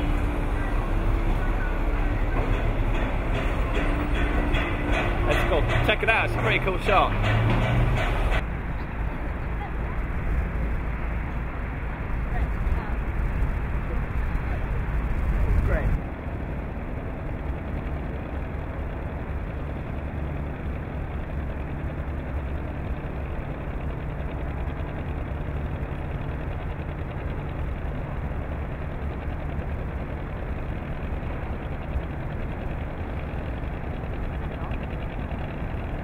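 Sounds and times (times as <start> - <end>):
engine drone: 0.0 - 36.0.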